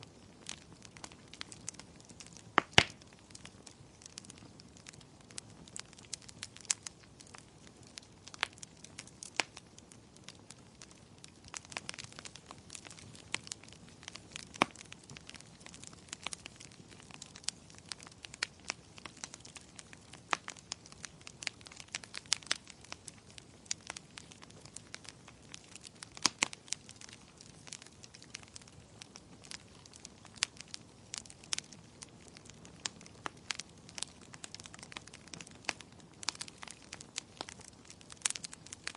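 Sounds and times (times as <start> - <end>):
fire crackling in fireplace: 0.0 - 38.9
soft steady hiss: 0.0 - 38.9.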